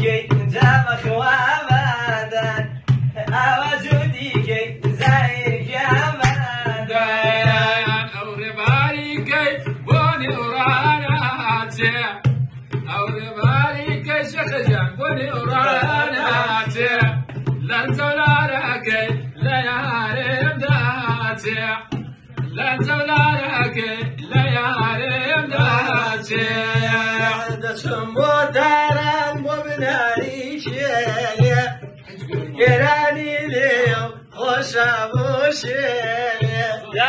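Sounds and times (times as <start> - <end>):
frame drum beating: 0.0 - 37.0
man singing: 0.0 - 37.0.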